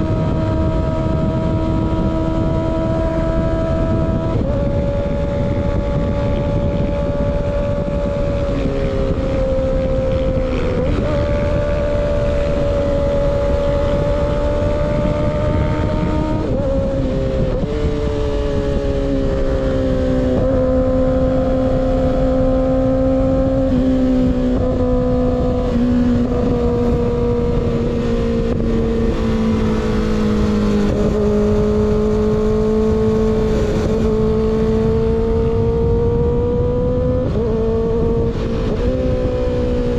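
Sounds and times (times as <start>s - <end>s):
motorcycle engine cruising: 0.0s - 39.9s
wind rushing: 0.0s - 39.9s.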